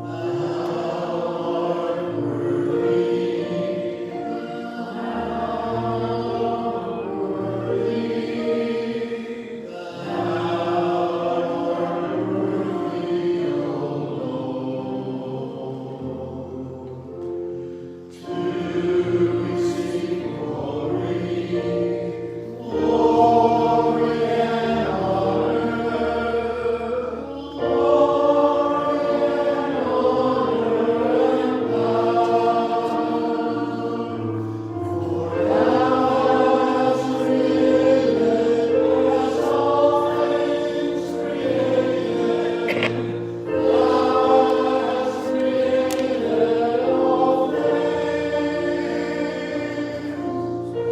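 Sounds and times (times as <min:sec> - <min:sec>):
choir singing a hymn: 0:00.0 - 0:50.9.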